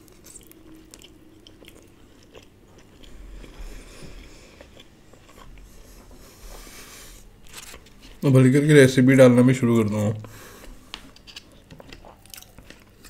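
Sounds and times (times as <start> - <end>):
person chewing food: 0.0 - 8.2, 10.2 - 13.0.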